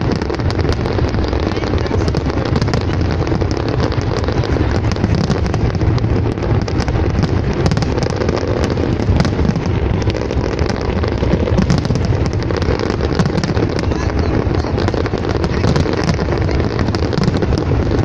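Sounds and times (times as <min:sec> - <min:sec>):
dense rumble: 0:00.0 - 0:18.0
fireworks crackling and popping: 0:00.0 - 0:18.0.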